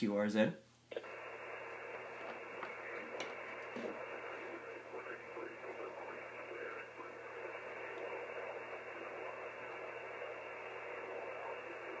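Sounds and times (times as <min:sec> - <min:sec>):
radio receiver hiss: 0:00.9 - 0:12.0.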